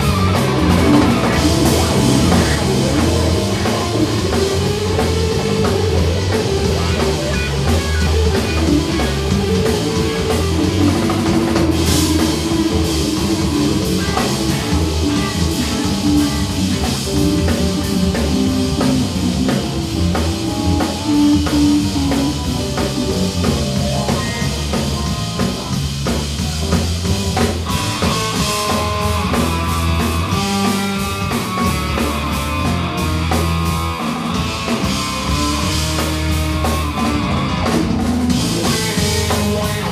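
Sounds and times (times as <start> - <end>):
drum kit: 0.0 - 39.9
electric bass: 0.0 - 39.9
electric guitar: 0.0 - 39.9
keyboards: 0.0 - 39.9.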